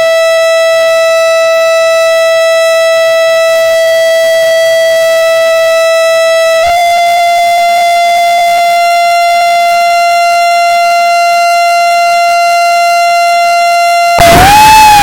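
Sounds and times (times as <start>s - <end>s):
loud steady tone: 0.0s - 15.0s.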